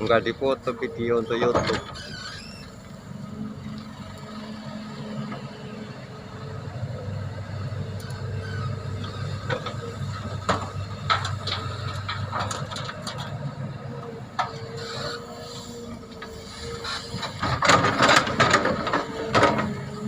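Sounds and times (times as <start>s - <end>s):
heavy machinery engine rumbling: 0.0s - 20.0s.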